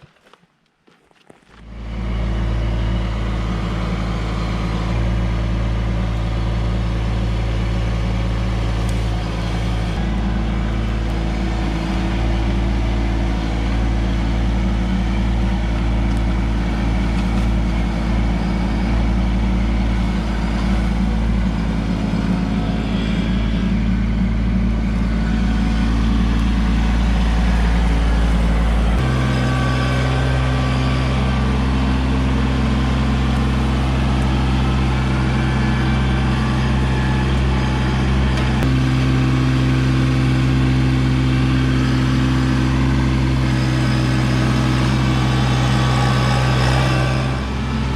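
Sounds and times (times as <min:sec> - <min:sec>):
tractor diesel engine running: 0:01.4 - 0:47.9.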